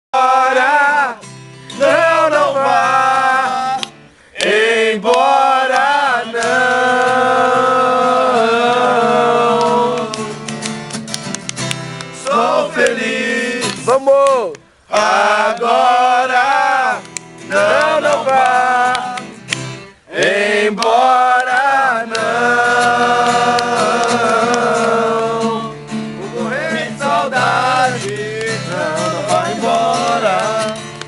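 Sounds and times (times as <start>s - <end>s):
man singing with vibrato: 0.2s - 10.4s, 14.9s - 19.2s, 20.1s - 31.0s.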